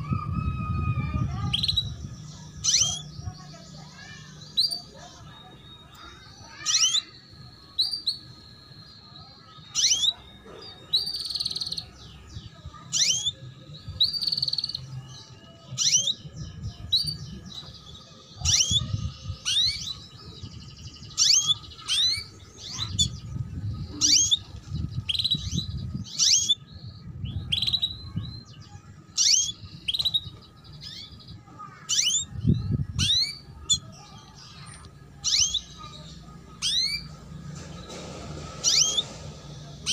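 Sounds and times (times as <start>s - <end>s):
canary chirping: 0.9s - 39.9s.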